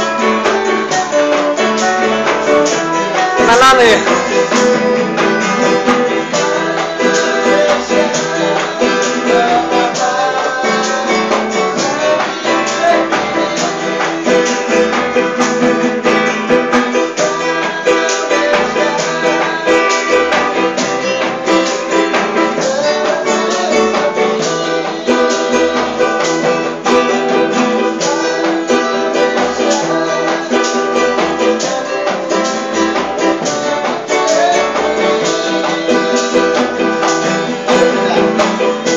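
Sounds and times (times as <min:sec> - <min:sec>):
band playing guitars: 0:00.0 - 0:38.9.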